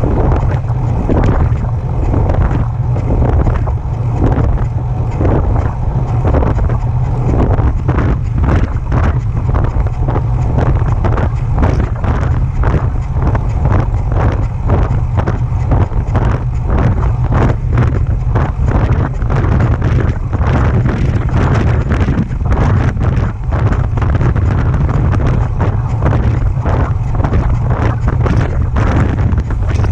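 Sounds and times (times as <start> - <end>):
e-bike drive pulsing noise: 0.0 - 29.9
wind rumble on microphone: 0.0 - 29.9.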